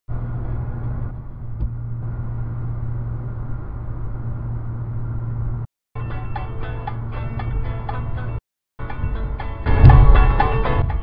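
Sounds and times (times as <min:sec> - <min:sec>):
car road and engine noise: 0:00.1 - 0:11.0.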